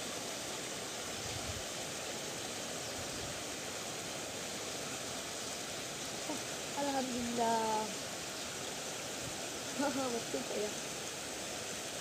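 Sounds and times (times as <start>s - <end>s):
water rushing through channel: 0.0s - 12.0s.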